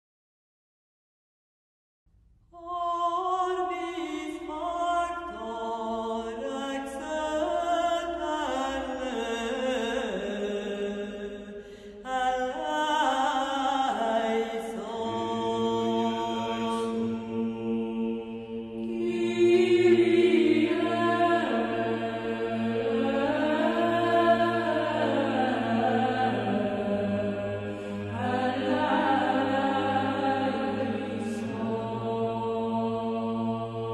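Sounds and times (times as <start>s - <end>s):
choral chanting: 2.6s - 33.9s.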